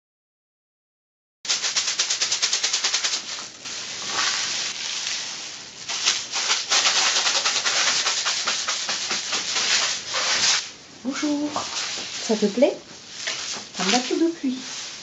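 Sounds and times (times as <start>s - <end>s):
rain stick rattling and pouring: 1.5s - 10.7s, 11.4s - 15.0s.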